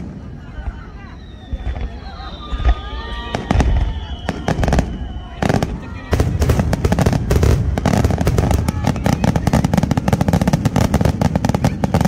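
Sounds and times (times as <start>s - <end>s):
fireworks cracks and booms: 0.0s - 12.0s.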